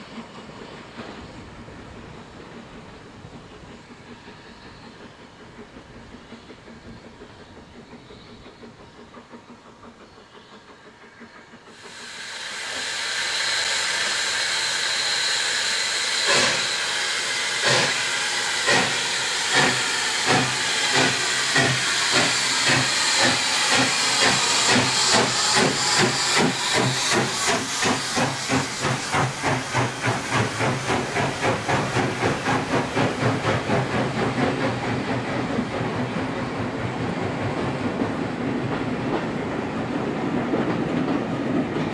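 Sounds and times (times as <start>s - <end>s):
loud steam hiss: 0.0s - 41.9s
steam locomotive exhaust beats: 0.0s - 41.9s.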